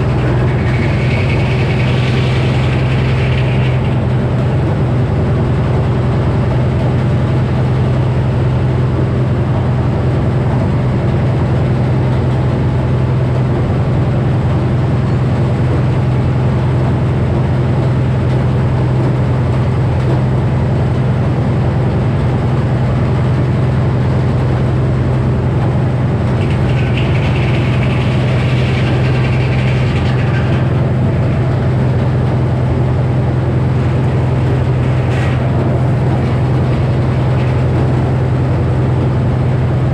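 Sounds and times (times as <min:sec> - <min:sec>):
circular saw running: 0:00.0 - 0:39.9
low hum: 0:00.0 - 0:39.9.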